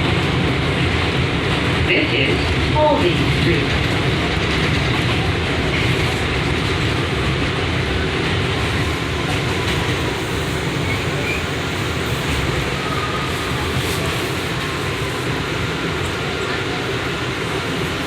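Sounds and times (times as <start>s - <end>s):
subway car rumble and hiss: 0.0s - 18.0s.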